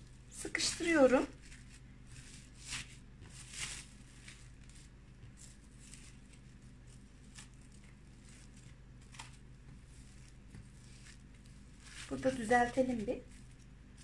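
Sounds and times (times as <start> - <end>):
low steady hum: 0.0 - 14.0
cling film crinkling: 0.5 - 14.0.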